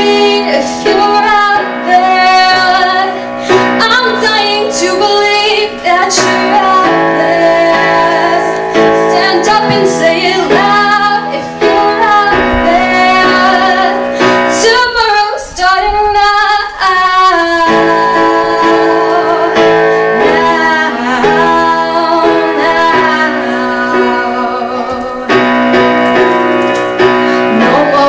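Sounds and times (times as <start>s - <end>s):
keyboard chords: 0.0s - 15.0s, 17.5s - 28.0s
woman singing: 0.0s - 26.3s, 27.0s - 28.0s.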